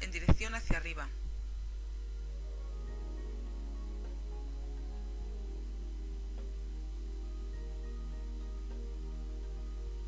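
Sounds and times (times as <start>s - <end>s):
steady low hum: 0.0s - 10.0s
instrumental background music: 1.9s - 10.0s.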